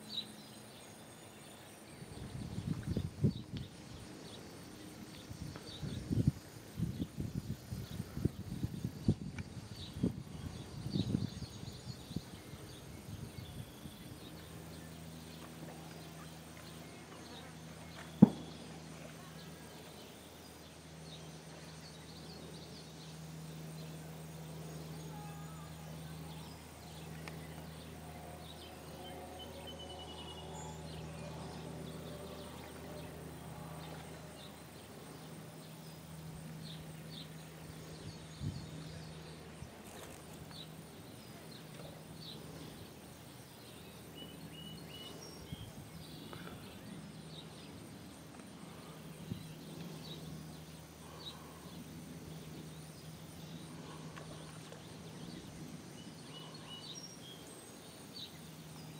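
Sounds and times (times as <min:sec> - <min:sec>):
bird or insect chirps: 0:00.0 - 0:58.9
steady low hum: 0:00.0 - 0:58.9.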